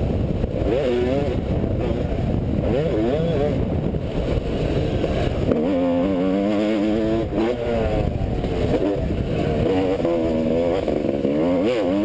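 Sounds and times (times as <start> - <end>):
low wind rumble: 0.0 - 12.0
motocross engine revving: 0.0 - 12.0.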